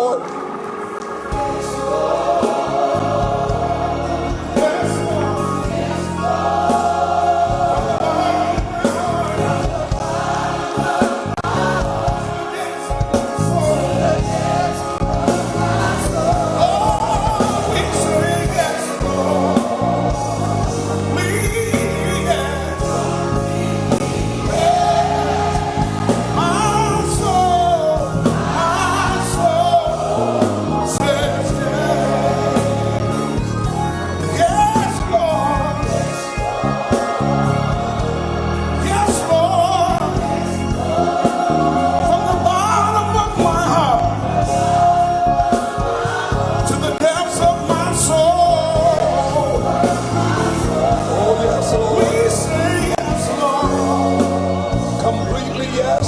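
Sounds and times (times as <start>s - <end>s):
gospel choir singing: 0.0s - 56.0s
instrumental accompaniment: 0.0s - 56.0s.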